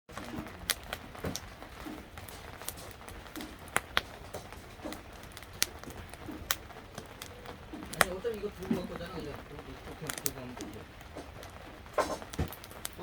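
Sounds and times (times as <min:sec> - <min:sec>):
firewood crackling and popping: 0:00.1 - 0:13.0
fire hiss: 0:00.2 - 0:13.0.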